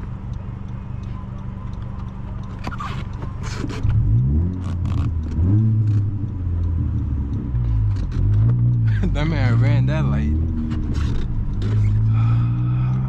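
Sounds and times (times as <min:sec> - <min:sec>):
car engine pulling under throttle: 0:00.0 - 0:13.0.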